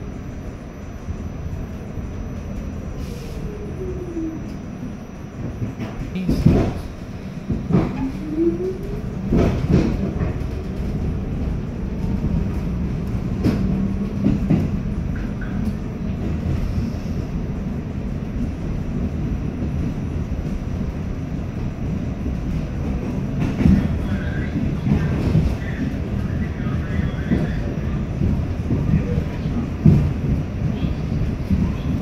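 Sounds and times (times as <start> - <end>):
subway car rumbling: 0.0 - 32.0.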